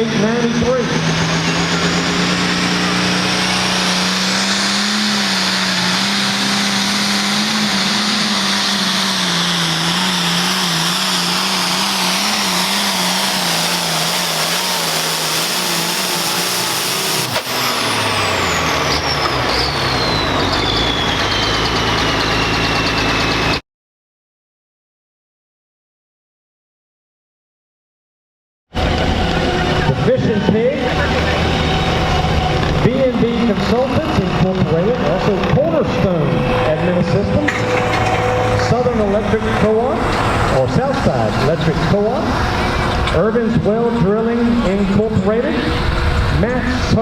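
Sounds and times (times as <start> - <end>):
diesel engine running hard: 0.0 - 23.6, 28.7 - 47.0.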